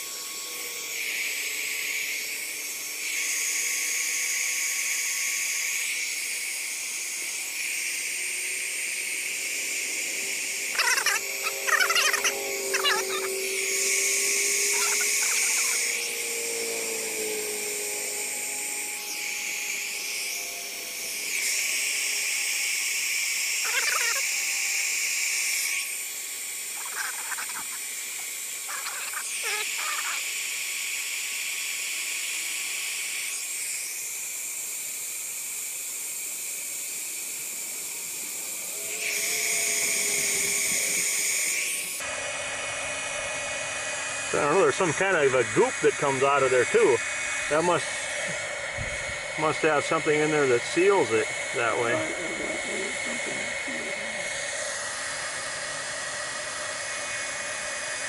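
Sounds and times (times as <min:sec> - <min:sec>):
heat gun fan whine and hiss: 0:00.0 - 0:58.0.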